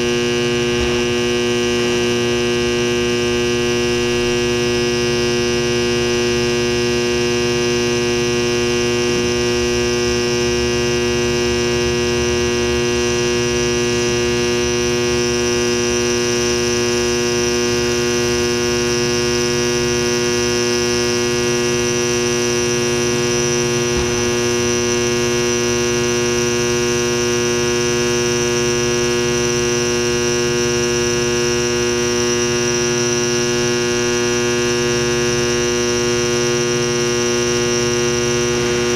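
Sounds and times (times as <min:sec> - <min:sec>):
bearing heater electrical buzz: 0:00.0 - 0:38.9.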